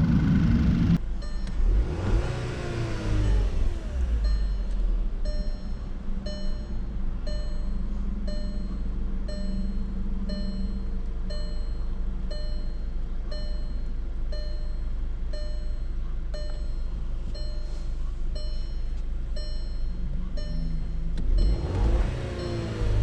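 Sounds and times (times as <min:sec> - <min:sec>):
car engine idling and misfiring: 0:00.0 - 0:23.0
electronic warning chime beeps: 0:01.2 - 0:01.5, 0:04.2 - 0:23.0.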